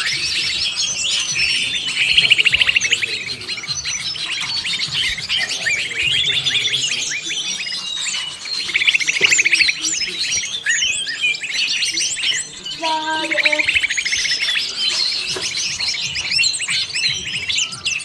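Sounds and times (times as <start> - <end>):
chorus of songbirds: 0.0 - 18.0.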